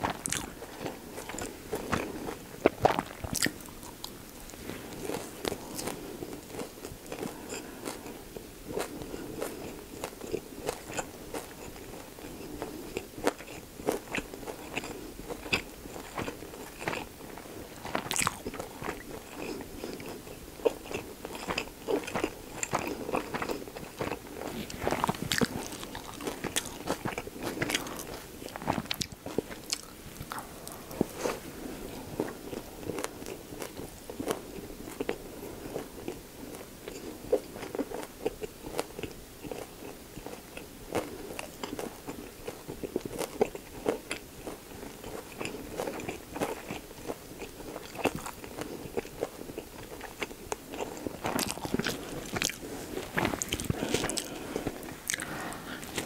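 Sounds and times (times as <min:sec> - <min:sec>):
close chewing with crunches: 0:00.0 - 0:56.0.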